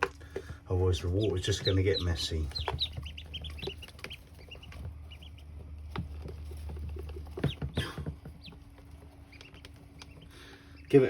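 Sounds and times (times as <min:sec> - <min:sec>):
sharp knocks and patters: 0:00.0 - 0:10.7
ducklings peeping: 0:00.0 - 0:11.0.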